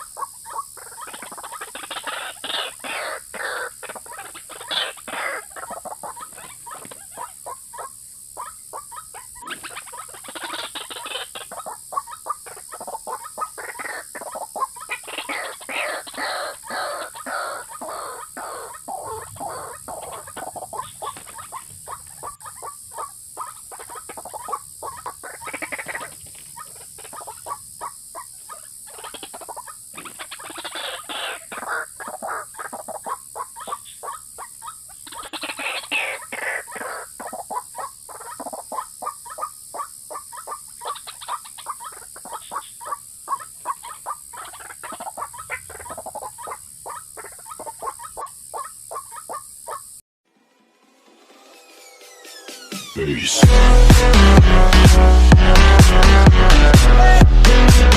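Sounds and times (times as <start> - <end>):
waterhen calls: 0.0 - 50.0.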